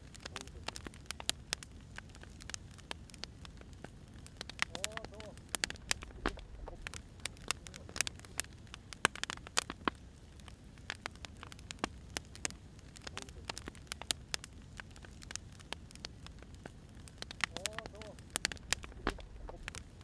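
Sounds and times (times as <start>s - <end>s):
firewood crackling and popping: 0.0s - 20.0s
low fire rumble: 0.0s - 20.0s.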